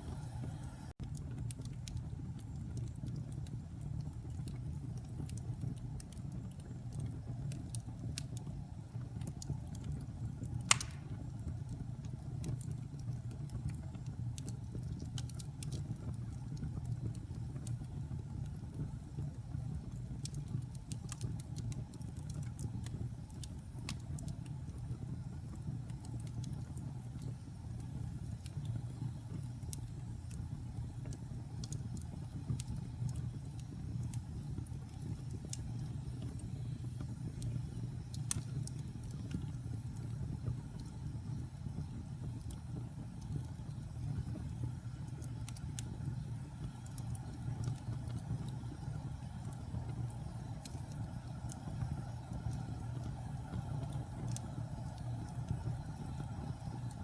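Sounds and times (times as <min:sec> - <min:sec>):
fire crackling and popping: 0:00.0 - 0:57.0
fire roaring in fireplace: 0:00.0 - 0:57.0.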